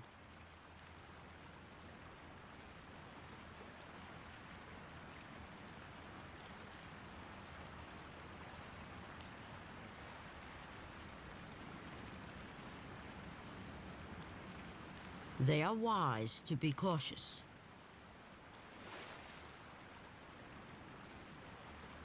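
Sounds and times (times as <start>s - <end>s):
creek water running: 0.2s - 22.0s.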